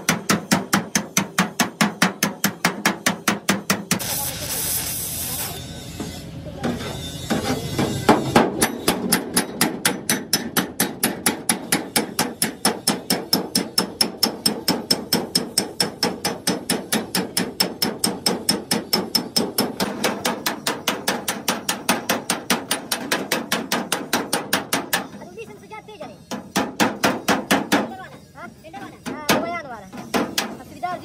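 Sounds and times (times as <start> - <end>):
hammer tapping on sheet steel: 0.0 - 4.1, 6.0 - 25.2, 26.3 - 27.9, 29.0 - 30.6.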